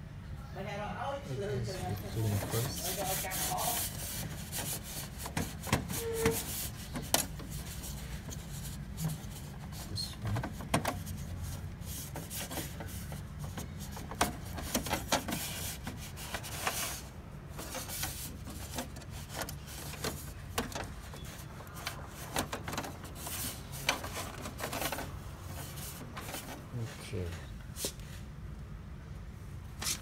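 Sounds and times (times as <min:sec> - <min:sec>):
cloth scrubbing plastic and metal: 0:01.8 - 0:27.1.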